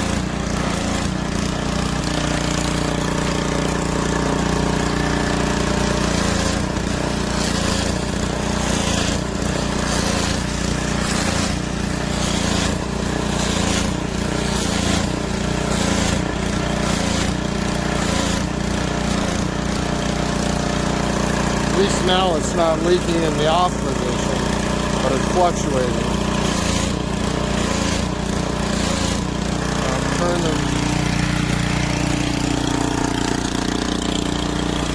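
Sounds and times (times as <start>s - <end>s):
pressure washer spray surging: 0.0s - 34.9s
small gasoline engine running: 0.0s - 34.9s.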